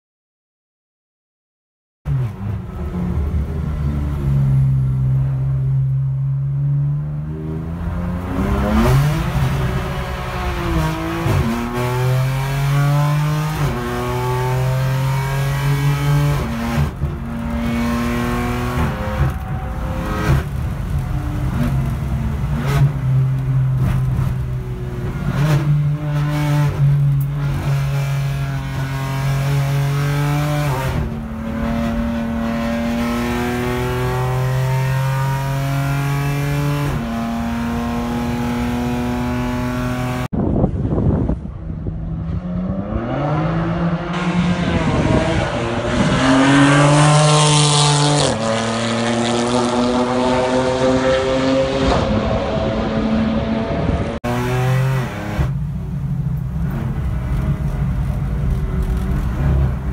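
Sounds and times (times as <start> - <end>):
race car engine accelerating: 6.4 - 40.3, 42.2 - 59.9.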